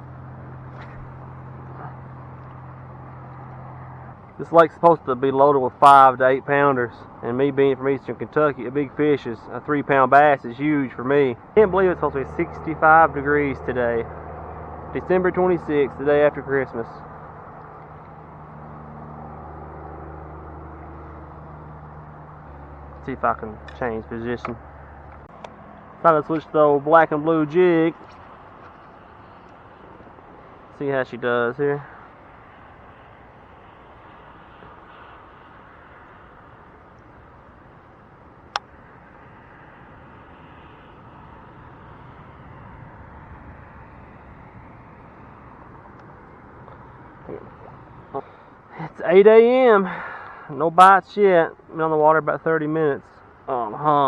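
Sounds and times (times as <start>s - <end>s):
boat motor humming: 0.0s - 50.7s
low hiss of outdoor ambience: 0.0s - 54.0s.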